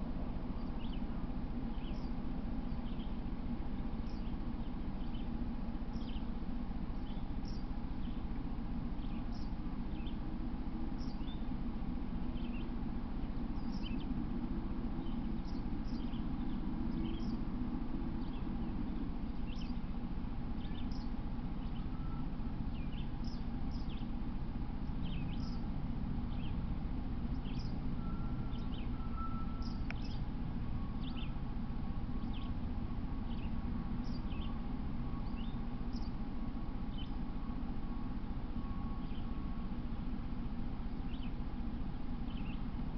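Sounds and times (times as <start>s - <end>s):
low background rumble: 0.0s - 42.9s
small birds chirping: 0.5s - 42.9s.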